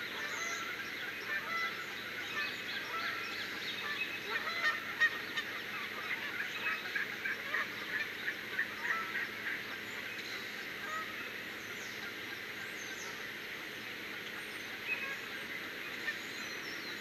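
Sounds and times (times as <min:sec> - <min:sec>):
chorus of birds calling: 0:00.0 - 0:17.0.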